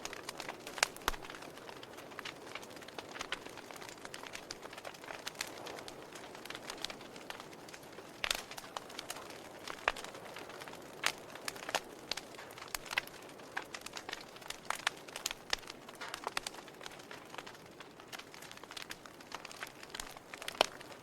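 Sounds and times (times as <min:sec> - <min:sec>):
soft hiss of flame: 0:00.0 - 0:21.0
wood fire crackling: 0:00.0 - 0:21.0.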